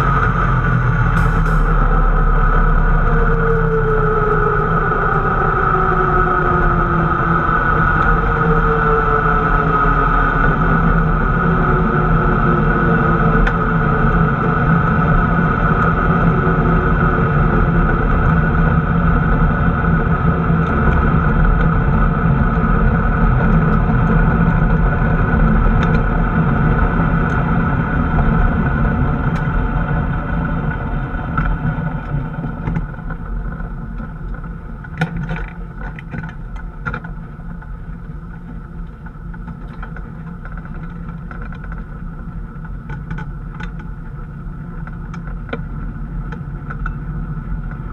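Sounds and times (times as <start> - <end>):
drag car engine running: 0.0 - 47.9.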